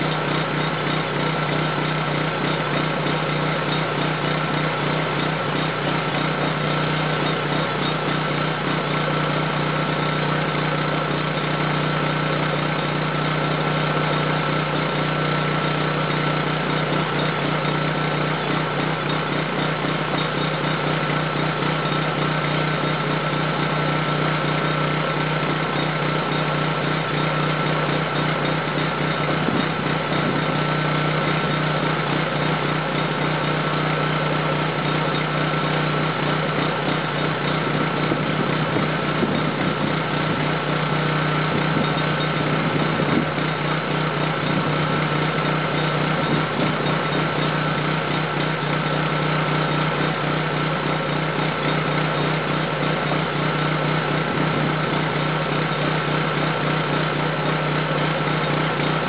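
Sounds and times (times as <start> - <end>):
generator engine humming: 0.0 - 59.0.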